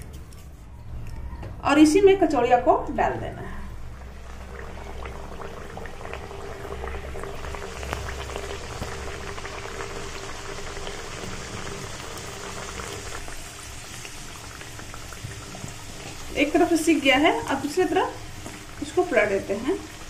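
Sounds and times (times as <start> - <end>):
food deep-frying in oil: 3.7 - 20.0.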